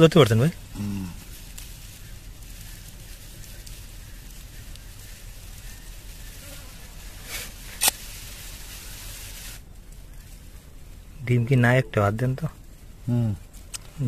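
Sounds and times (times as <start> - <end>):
short rustle: 0.0 - 11.6.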